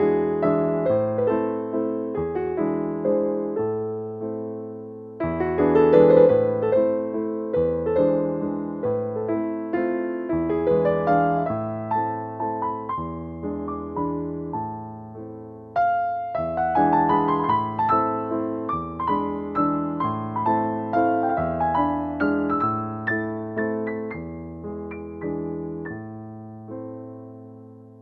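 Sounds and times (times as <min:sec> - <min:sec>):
gentle piano melody: 0:00.0 - 0:28.0.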